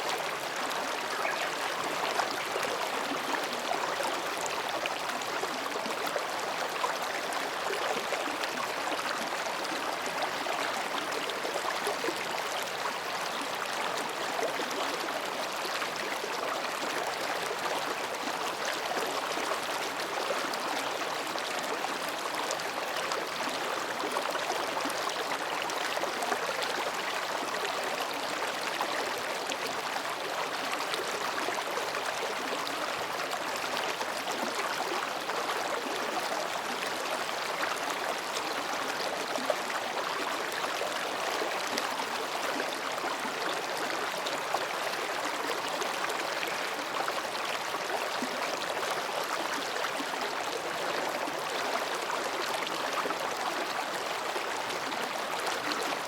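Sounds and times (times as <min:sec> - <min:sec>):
stream babbling between rocks: 0:00.0 - 0:56.0.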